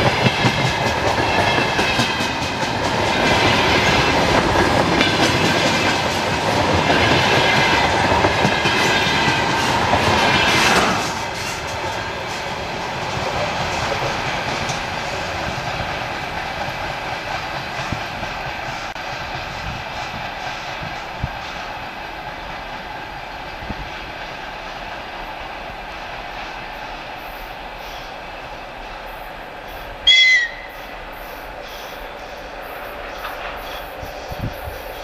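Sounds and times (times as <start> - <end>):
steady rail rumble: 0.0 - 35.0
train wheels clattering: 0.0 - 35.0.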